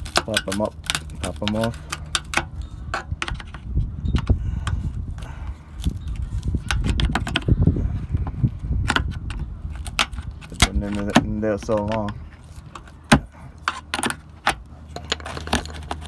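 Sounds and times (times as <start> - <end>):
plastic clips clicking and scraping: 0.0 - 7.6, 8.2 - 16.0
low handling noise: 0.0 - 16.0.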